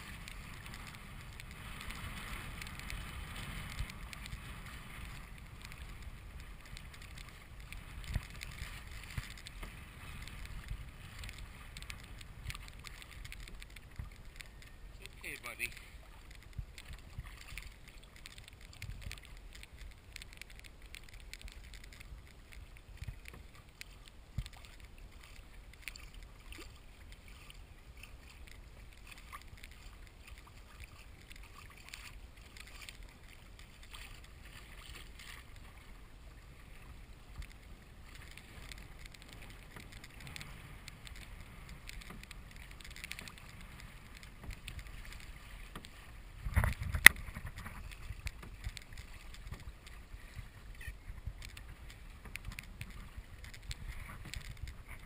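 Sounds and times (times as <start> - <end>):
small ticks: 0.0 - 55.0
water sloshing around kayak: 0.0 - 55.0
wind rumble on microphone: 0.0 - 55.0.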